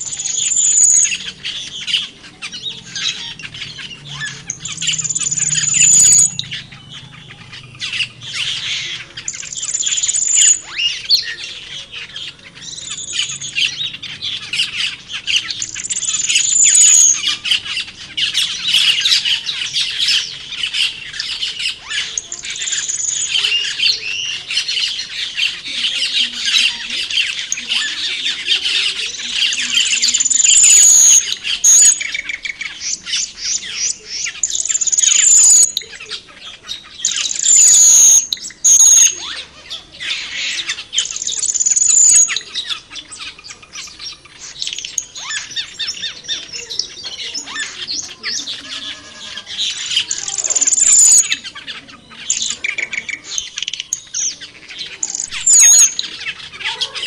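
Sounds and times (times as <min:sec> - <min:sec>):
loud high whistled bird notes: 0:00.0 - 0:51.5, 0:52.2 - 0:56.7
birds chattering and squawking: 0:00.0 - 0:57.0.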